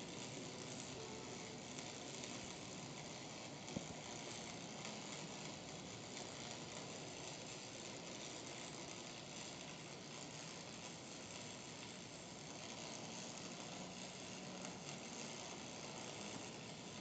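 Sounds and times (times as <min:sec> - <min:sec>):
arc welding crackling hiss: 0:00.0 - 0:17.0.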